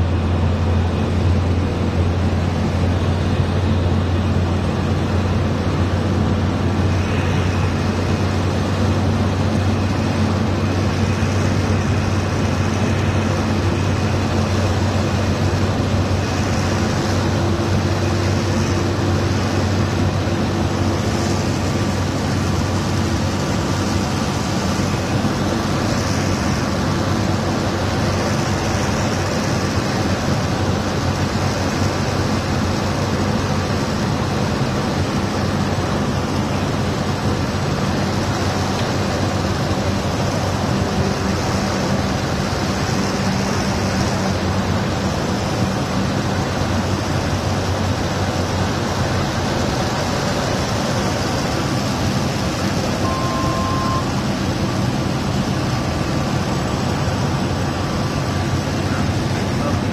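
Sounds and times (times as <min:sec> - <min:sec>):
airflow noise: 0:00.0 - 0:59.9
turboprop engine drone: 0:00.0 - 0:59.9.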